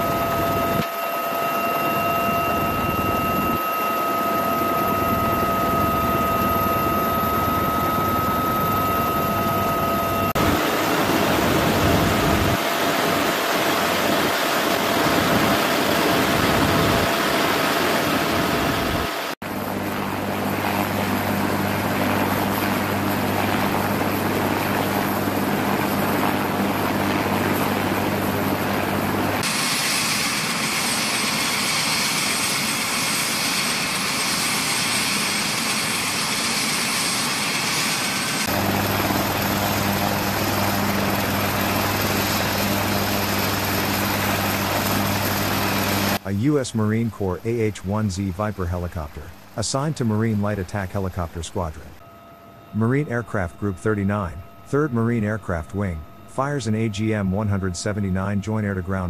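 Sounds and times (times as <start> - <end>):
helicopter engine and rotor: 0.0 - 46.4, 47.4 - 59.0.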